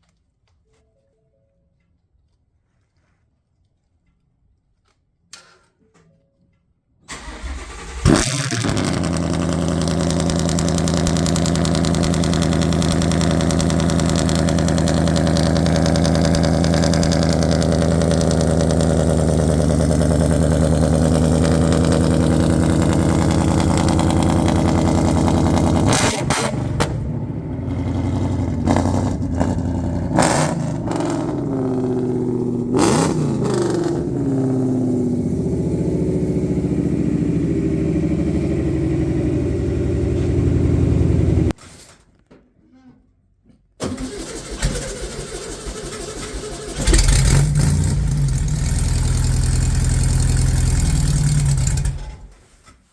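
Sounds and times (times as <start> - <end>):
engine starting and running: 7.1 - 41.6, 43.8 - 52.6.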